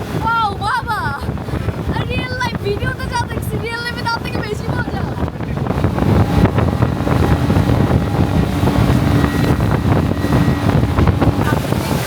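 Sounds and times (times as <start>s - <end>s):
motorboat engine running: 0.0s - 12.0s
wind buffeting microphone: 0.0s - 12.0s.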